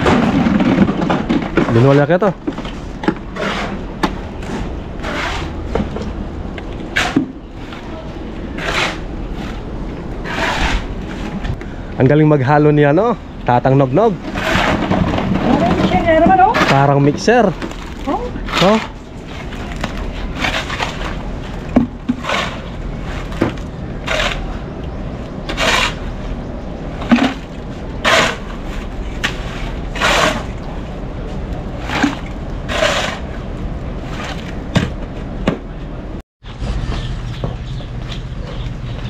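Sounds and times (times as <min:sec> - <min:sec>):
shovel scraping concrete mix: 0:00.0 - 0:06.1, 0:06.9 - 0:11.6, 0:13.7 - 0:24.7, 0:25.4 - 0:35.0.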